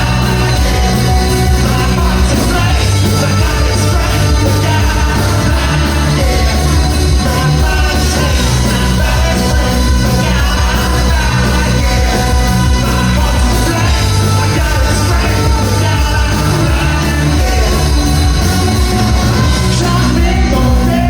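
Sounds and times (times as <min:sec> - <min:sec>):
live rock band: 0:00.0 - 0:21.0
shouted lead vocal: 0:00.0 - 0:21.0.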